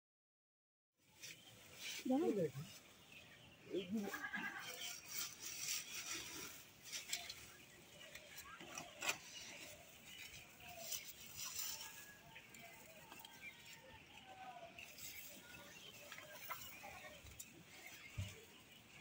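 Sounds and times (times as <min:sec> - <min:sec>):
leaves rustling underfoot: 0:01.0 - 0:19.0.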